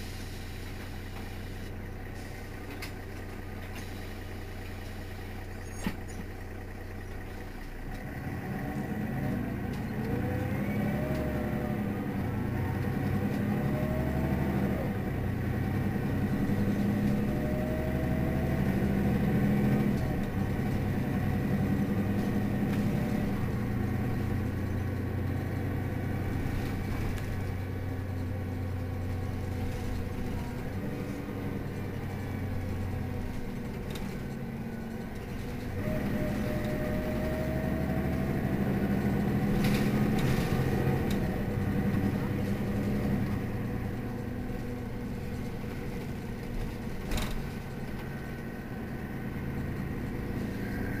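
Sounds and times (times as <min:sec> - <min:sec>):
bus engine idling: 0:00.0 - 0:51.0.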